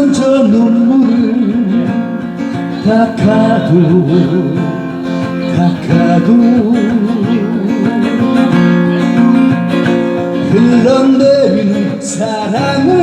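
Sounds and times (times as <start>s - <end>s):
acoustic guitar ballad: 0.0s - 13.0s
person singing: 0.0s - 13.0s.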